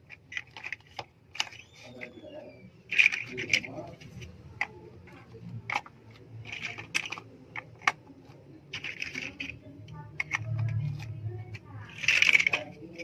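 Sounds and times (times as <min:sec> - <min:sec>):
plastic bricks snapping together: 0:00.0 - 0:02.2, 0:02.9 - 0:04.8, 0:05.5 - 0:13.0
light rattling of bricks: 0:00.0 - 0:13.0.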